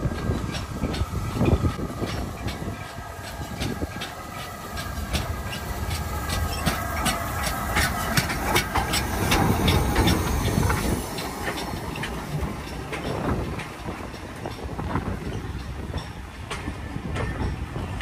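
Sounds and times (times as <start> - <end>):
locomotive wheels clicking and knocking: 0.0 - 18.0
steam hissing: 0.0 - 18.0.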